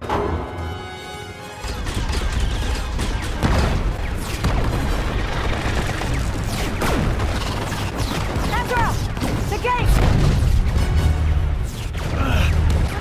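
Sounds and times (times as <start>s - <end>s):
explosions and booms: 1.6s - 13.0s.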